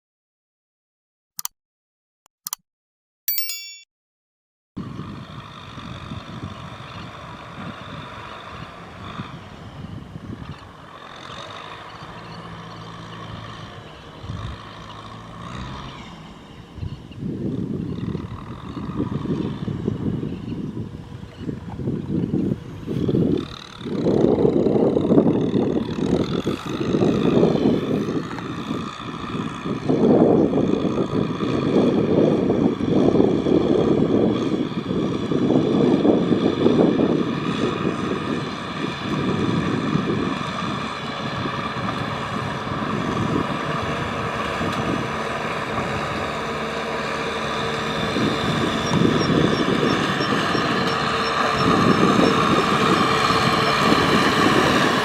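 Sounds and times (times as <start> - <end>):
tractor engine running hard: 4.8 - 55.0.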